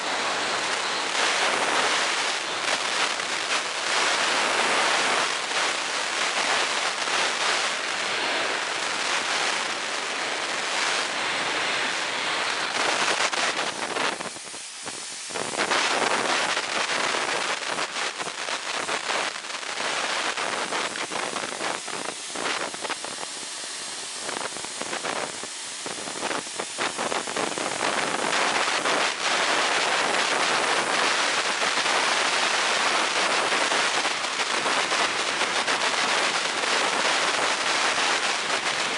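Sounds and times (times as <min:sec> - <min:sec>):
compressed air hissing: 0:00.0 - 0:33.4.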